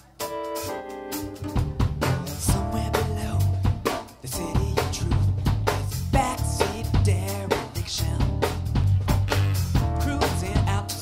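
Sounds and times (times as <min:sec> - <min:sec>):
drum kit beat: 0:00.0 - 0:11.0
bass line: 0:00.7 - 0:11.0.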